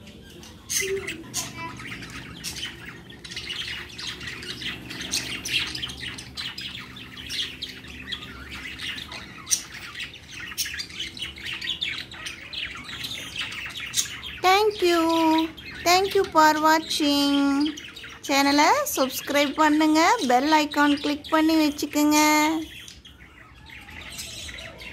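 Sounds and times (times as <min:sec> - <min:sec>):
budgerigars chattering: 0:00.0 - 0:24.9.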